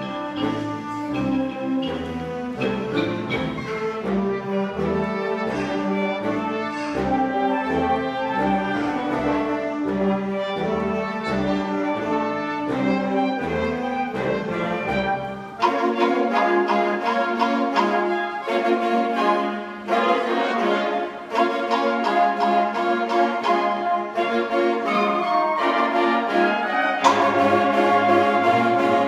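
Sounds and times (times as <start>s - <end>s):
wind band playing: 0.0s - 29.0s.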